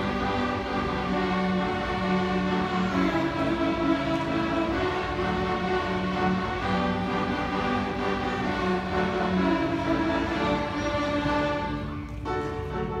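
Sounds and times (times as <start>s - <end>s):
string orchestra playing sustained notes: 0.0s - 13.0s.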